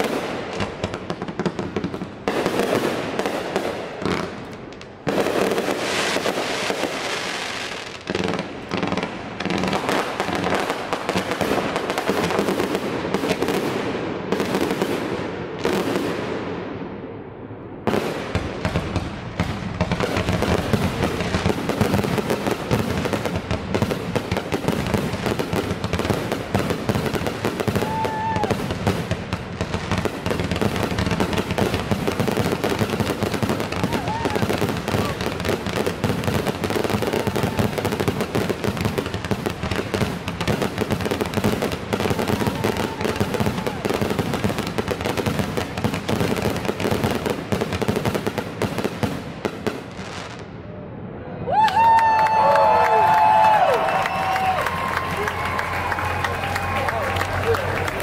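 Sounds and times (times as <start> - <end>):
fireworks bursting and crackling: 0.0 - 17.0, 17.7 - 50.6, 51.6 - 58.0.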